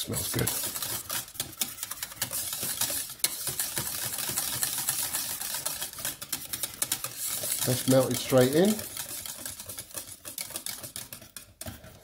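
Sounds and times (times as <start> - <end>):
whisk clicking against pan: 0.0 - 12.0.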